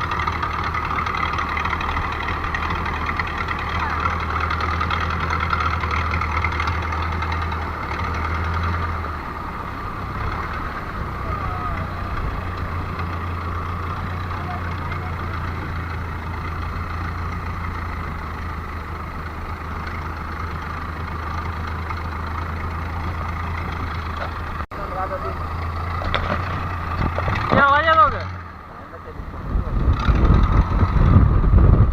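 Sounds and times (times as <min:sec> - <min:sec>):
engine humming: 0:00.0 - 0:31.9.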